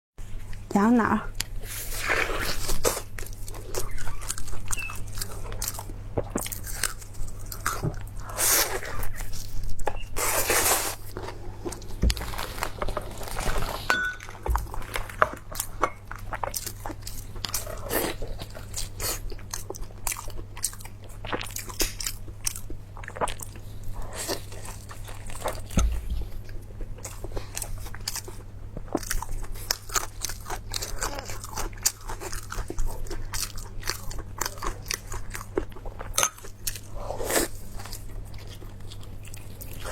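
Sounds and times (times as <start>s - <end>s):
person chewing crunchy food: 1.4s - 39.9s.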